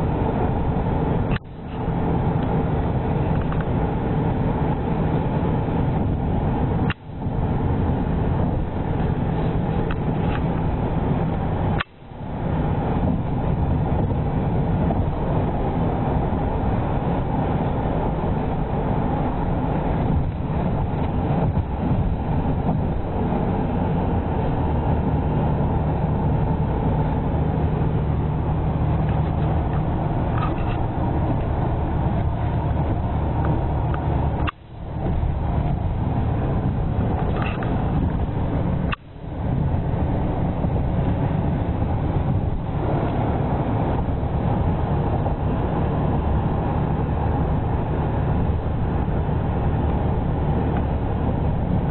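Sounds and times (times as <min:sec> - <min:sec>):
low engine drone: 0:00.0 - 0:51.9
tyres and wind road noise: 0:00.0 - 0:51.9.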